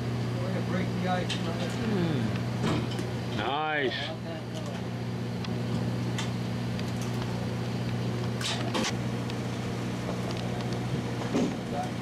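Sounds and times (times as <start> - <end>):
boat machinery humming: 0.0 - 12.0.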